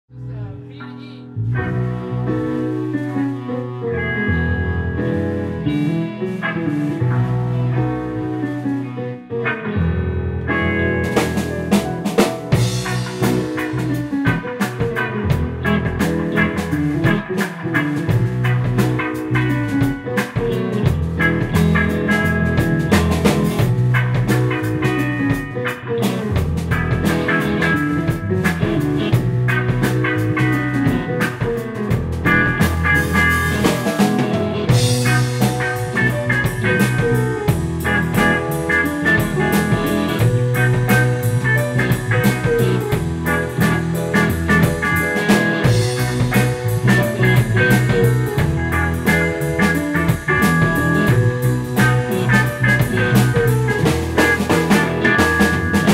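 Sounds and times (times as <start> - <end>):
funk band jamming: 0.2 - 55.9.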